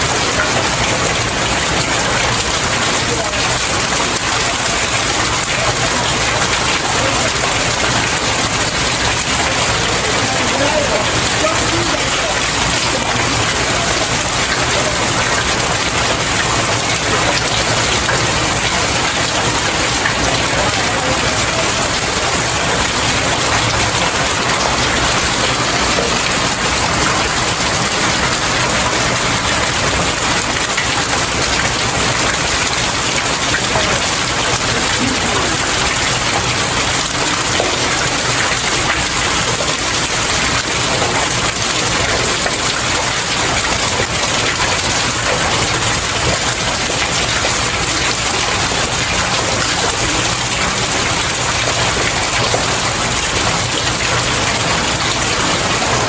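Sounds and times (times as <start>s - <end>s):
rain falling on stairs: 0.0s - 56.0s.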